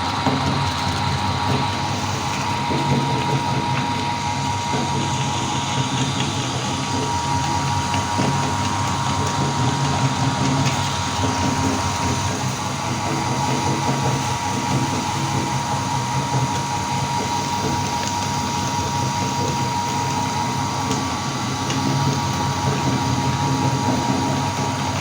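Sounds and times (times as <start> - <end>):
meat grinder motor whining: 0.0 - 25.0.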